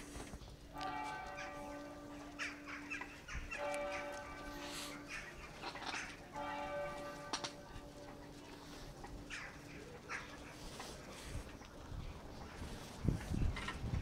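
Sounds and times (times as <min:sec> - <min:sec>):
large bells ringing: 0:00.0 - 0:13.8.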